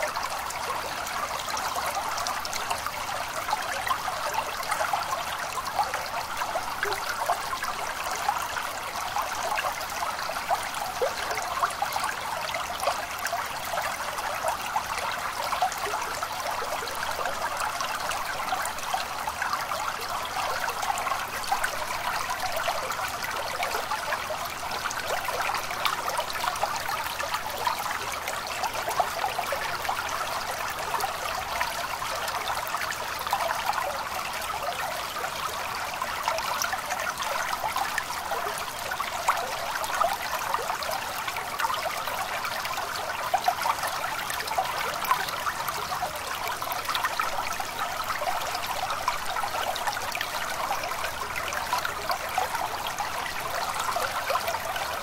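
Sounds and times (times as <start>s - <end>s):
small stream babbling: 0.0s - 55.0s.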